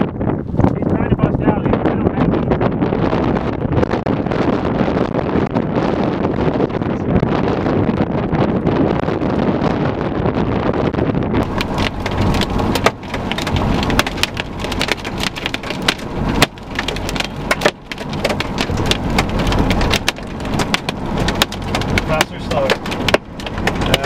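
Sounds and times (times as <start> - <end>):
wind buffeting microphone: 0.0 - 24.0
rain hitting car windshield: 2.5 - 24.0.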